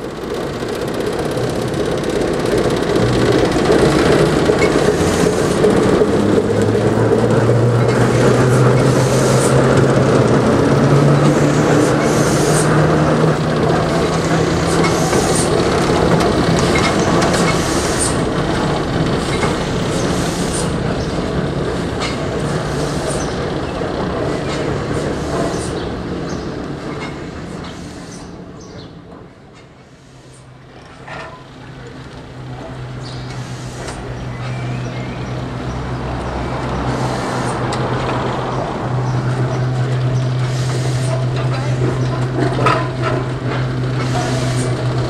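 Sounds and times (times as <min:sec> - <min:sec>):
diesel locomotive engine running: 0:00.0 - 0:45.0
train wheels clicking and squealing: 0:00.0 - 0:45.0.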